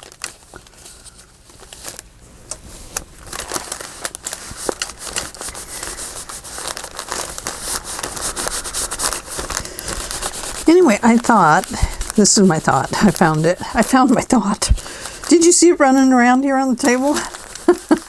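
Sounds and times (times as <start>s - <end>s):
paper crinkling and rustling: 0.0s - 18.0s.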